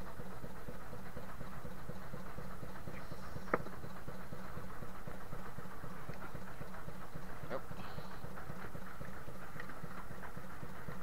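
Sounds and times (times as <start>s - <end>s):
boat engine knocking rumble: 0.0s - 11.0s.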